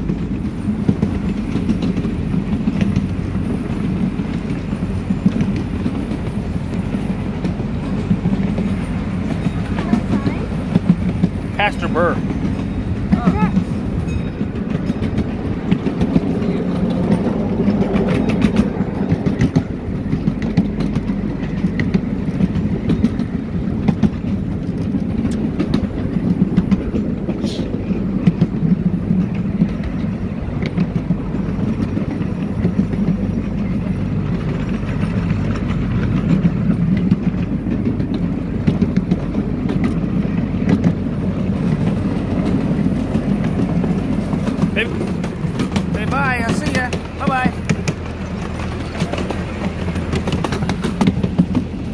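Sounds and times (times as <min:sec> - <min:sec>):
miniature train rumble: 0:00.0 - 0:51.9
wheels clattering over rails: 0:00.0 - 0:51.9.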